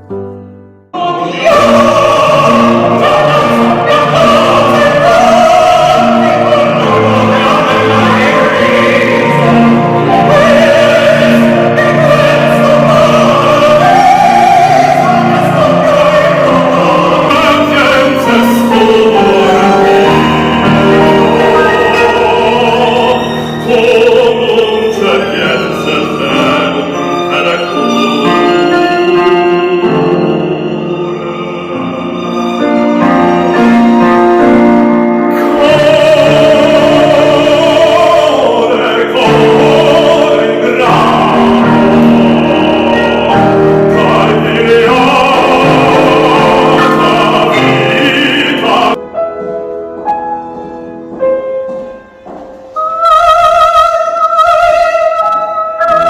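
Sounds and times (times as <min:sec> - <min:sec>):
instrumental accompaniment: 0:00.0 - 0:56.0
music with singing voices: 0:01.0 - 0:56.0.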